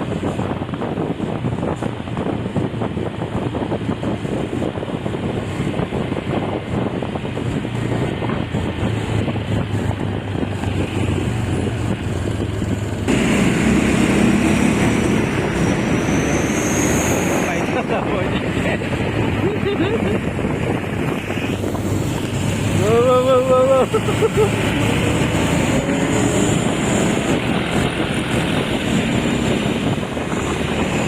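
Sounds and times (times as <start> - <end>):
road noise: 0.0 - 31.0
vehicle engine hum: 0.0 - 31.0
wind buffeting microphone: 0.0 - 31.0.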